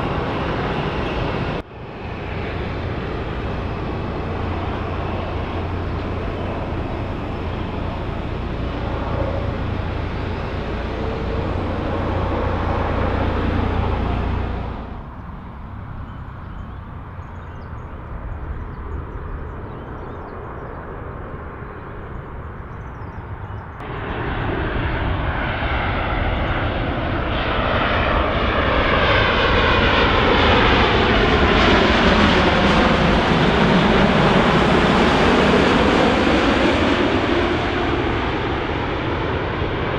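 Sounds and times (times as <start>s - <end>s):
jet airliner engines roaring: 0.0s - 39.9s.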